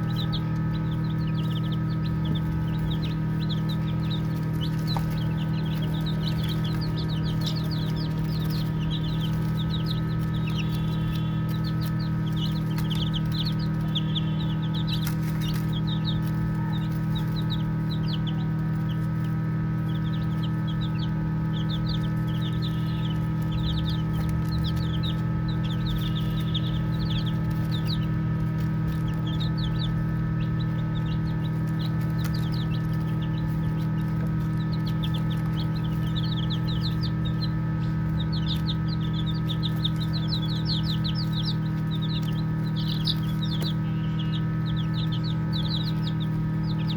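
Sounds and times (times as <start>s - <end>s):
baby chicks peeping: 0.0s - 46.9s
steady low hum: 0.0s - 46.9s.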